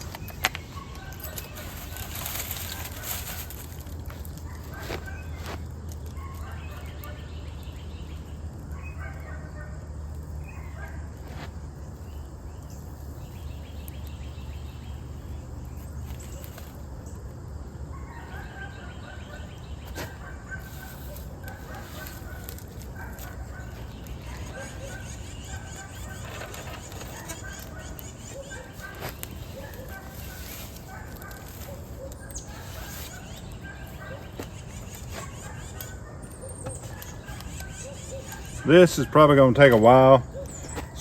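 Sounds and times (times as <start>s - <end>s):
birds calling: 0.0s - 41.0s.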